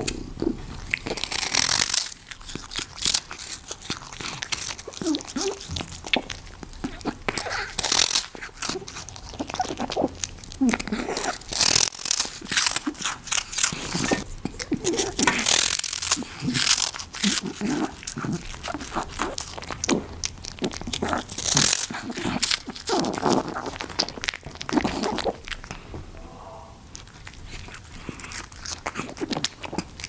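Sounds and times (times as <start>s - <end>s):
pet crunching treat: 0.0s - 25.9s, 26.9s - 30.0s.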